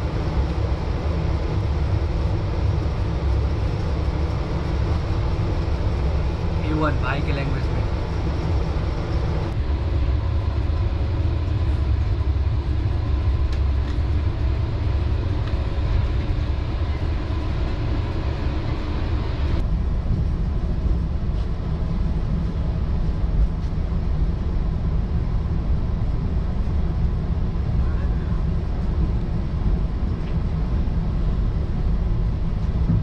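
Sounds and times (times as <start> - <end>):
train coach rumble from inside: 0.0 - 33.0.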